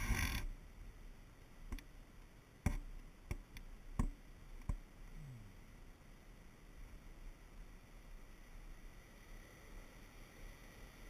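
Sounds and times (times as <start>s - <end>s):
rustle: 0.0s - 11.0s.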